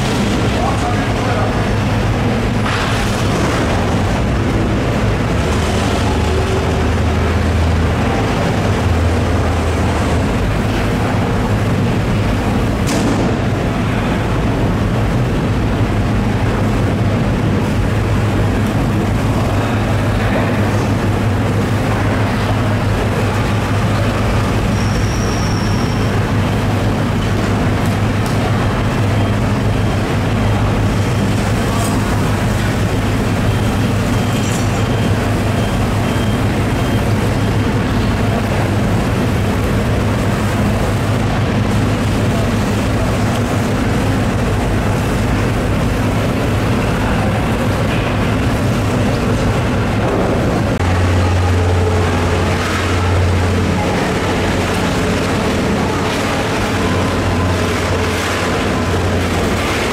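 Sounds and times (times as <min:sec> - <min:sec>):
loud low machine hum: 0:00.0 - 0:59.9.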